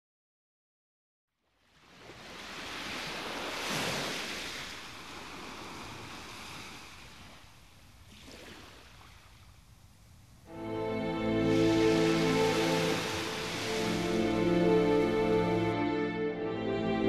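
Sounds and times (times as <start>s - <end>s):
wind: 1.4s - 17.0s
surf washing on shore: 1.7s - 15.8s.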